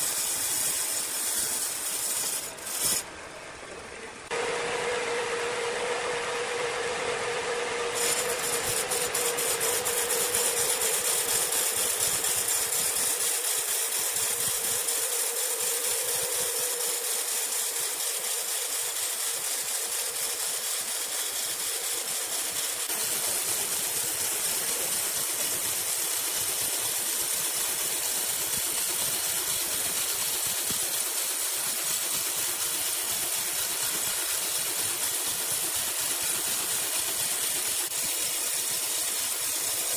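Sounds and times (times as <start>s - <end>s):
band saw blade cutting log: 0.0s - 3.1s, 7.8s - 39.9s.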